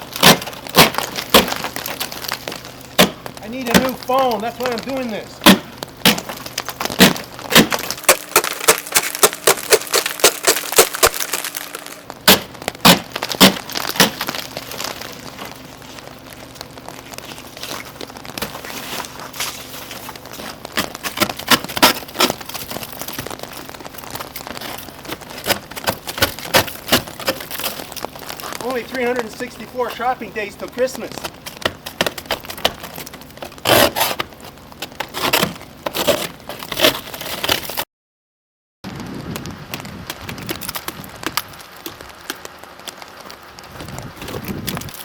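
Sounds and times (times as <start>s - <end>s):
ice scraper chipping ice: 0.0s - 37.8s.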